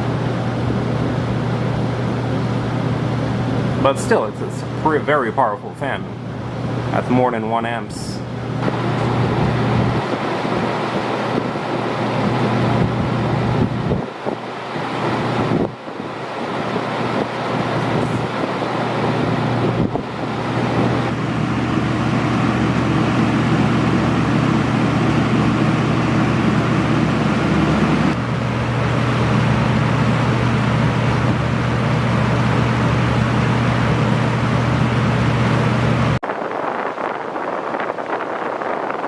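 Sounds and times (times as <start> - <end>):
box fan running: 0.0 - 39.0.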